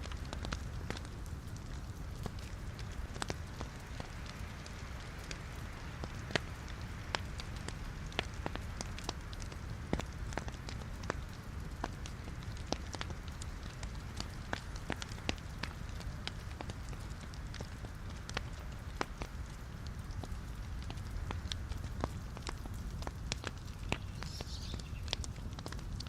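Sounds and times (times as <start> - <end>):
wood fire crackling in fireplace: 0.0 - 26.0.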